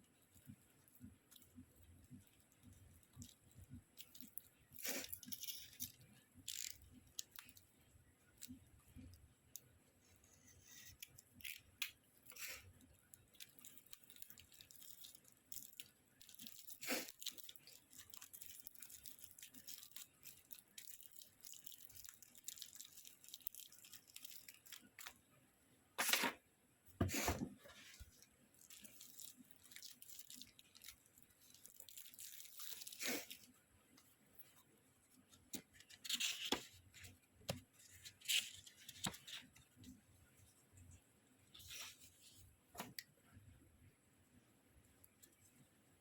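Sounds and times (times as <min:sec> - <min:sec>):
plastic and paper crinkling: 0:00.2 - 0:09.2, 0:10.0 - 0:25.2, 0:27.5 - 0:40.9, 0:41.5 - 0:43.0.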